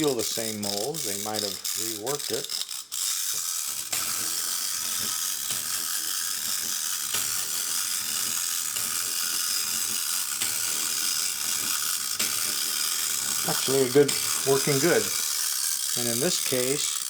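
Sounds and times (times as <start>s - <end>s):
clockwork gears whirring: 0.0s - 17.0s.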